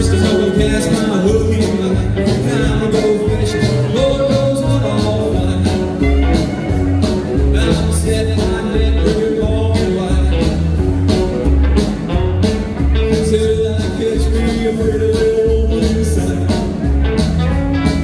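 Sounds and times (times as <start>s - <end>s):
rockabilly band playing live: 0.0s - 18.0s.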